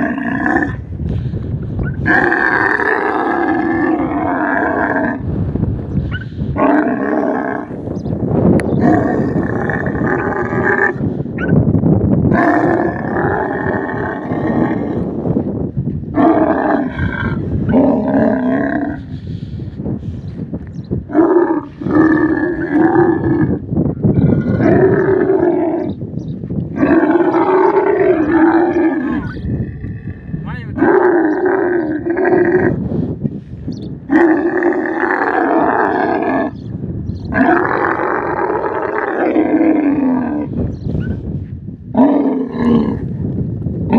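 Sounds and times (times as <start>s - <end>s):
camel roaring calls: 0.0s - 0.9s, 1.8s - 5.4s, 6.1s - 7.9s, 8.7s - 11.6s, 12.3s - 15.3s, 16.1s - 19.4s, 21.0s - 26.0s, 26.6s - 33.0s, 34.0s - 41.2s, 41.8s - 43.2s.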